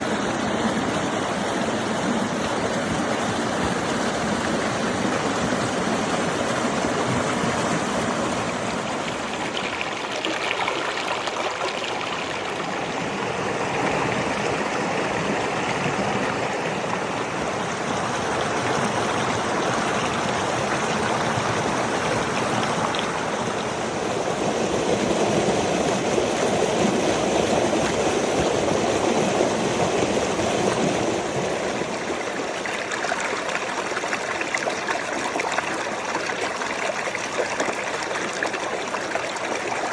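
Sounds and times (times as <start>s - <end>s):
river rushing over rocks: 0.1s - 39.7s.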